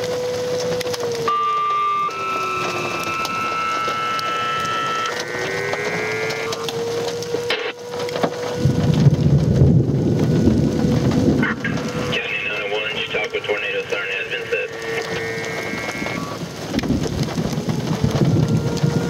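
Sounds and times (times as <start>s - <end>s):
low rushing wind or rain: 0.0s - 19.0s
tornado siren wailing: 0.0s - 19.0s.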